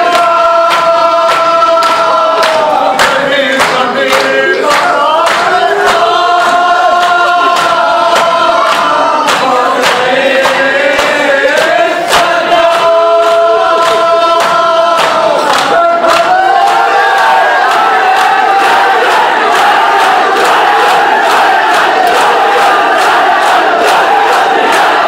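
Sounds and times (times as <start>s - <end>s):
crowd chanting in unison: 0.0s - 25.0s.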